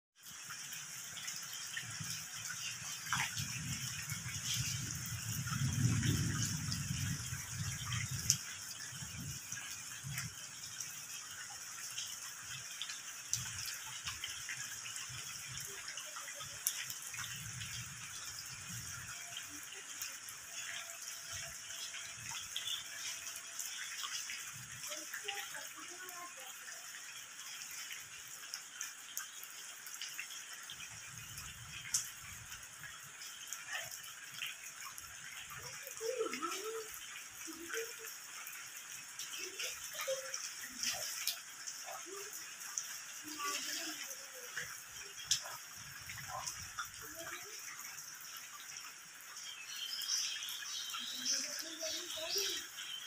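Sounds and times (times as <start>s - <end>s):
scattered drips: 0.2s - 53.0s
steady rain falling: 0.2s - 53.0s.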